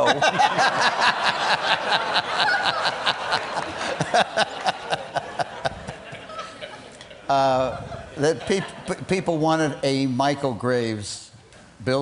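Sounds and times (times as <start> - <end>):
crowd laughing: 0.0 - 9.8.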